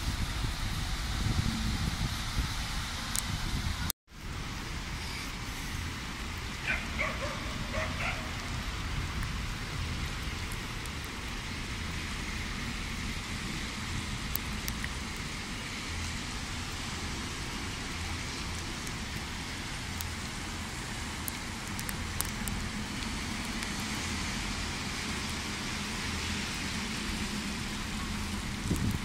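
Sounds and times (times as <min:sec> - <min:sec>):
heavy rain on a flooded street: 0:00.0 - 0:29.0.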